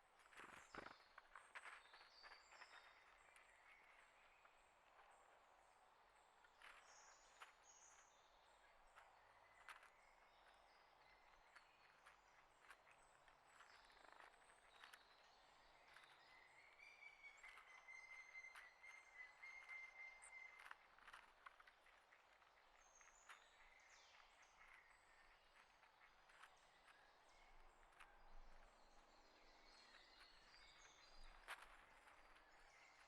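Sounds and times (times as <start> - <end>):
small birds chirping: 6.2 - 33.0.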